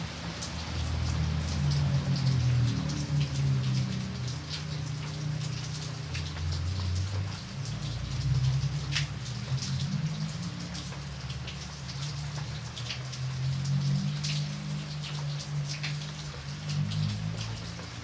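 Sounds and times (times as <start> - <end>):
raindrops tapping a surface: 0.0 - 18.0.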